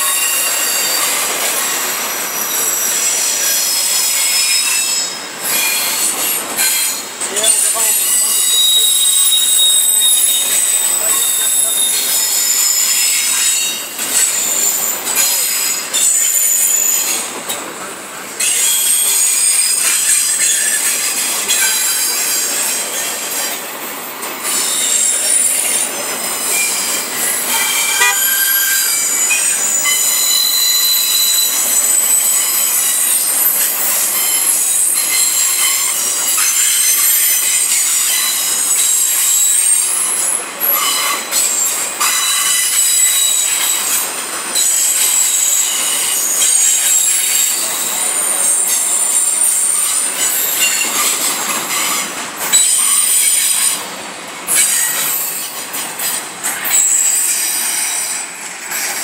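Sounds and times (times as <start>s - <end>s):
freight train rolling clatter: 0.0s - 59.0s
train wheels squealing: 0.0s - 59.0s.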